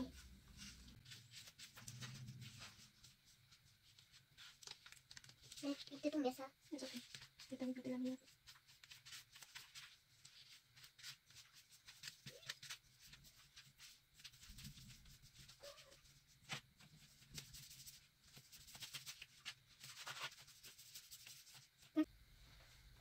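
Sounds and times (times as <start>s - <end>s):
scratchy paintbrush strokes on paper: 0.0s - 4.8s, 5.4s - 22.1s.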